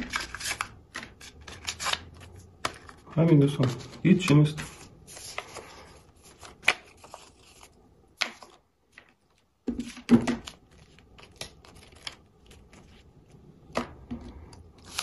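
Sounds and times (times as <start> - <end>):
paper rustling and crackling: 0.0 - 13.9, 14.5 - 15.0.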